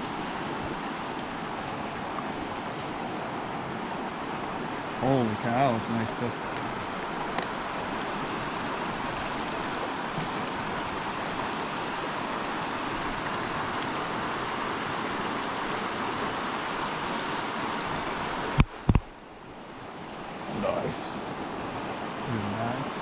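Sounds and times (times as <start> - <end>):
stream water over rapids: 0.0 - 23.0.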